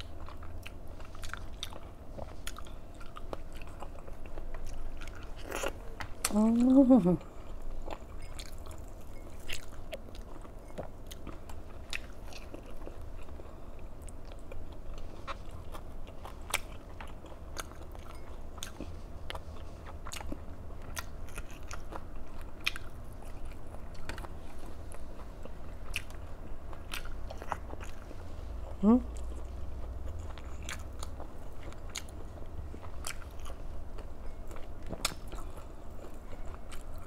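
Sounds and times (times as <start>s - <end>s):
person chewing crunchy food: 0.0s - 37.0s.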